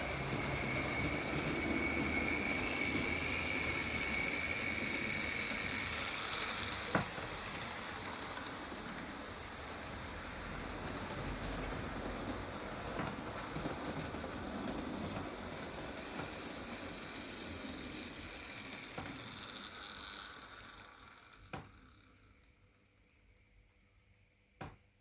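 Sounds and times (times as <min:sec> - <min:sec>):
model train whirring and rattling: 0:00.0 - 0:23.7.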